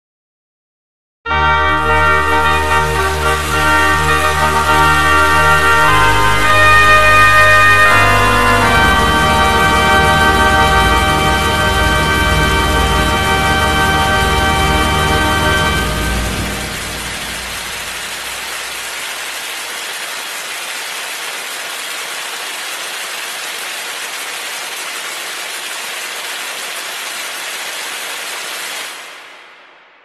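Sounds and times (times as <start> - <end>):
steady rushing hiss: 2.0 - 30.0.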